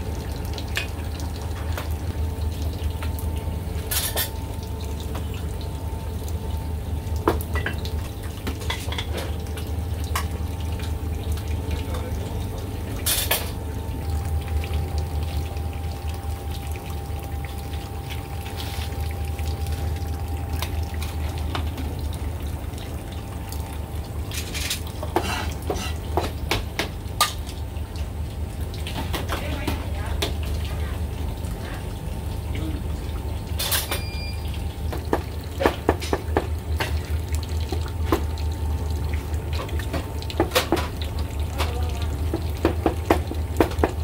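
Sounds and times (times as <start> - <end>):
steady low hum: 0.0 - 42.6.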